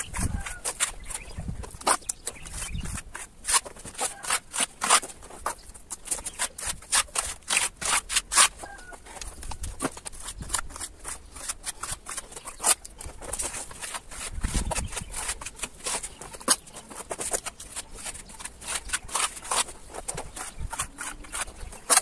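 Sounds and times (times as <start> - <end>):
hard object scraping rough surface: 0.0 - 22.0.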